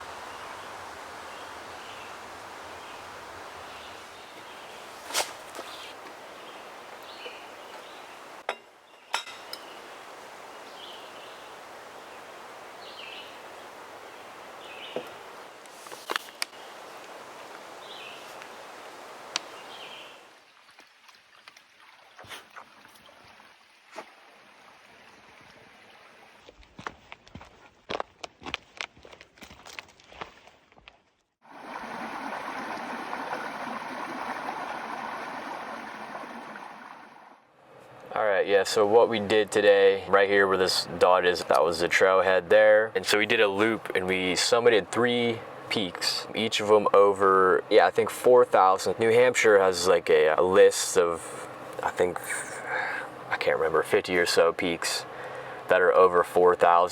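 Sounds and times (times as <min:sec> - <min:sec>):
mountain stream flowing: 0:00.0 - 0:26.9, 0:31.4 - 0:37.5, 0:38.2 - 0:56.8
outdoor background noise: 0:00.0 - 0:56.9.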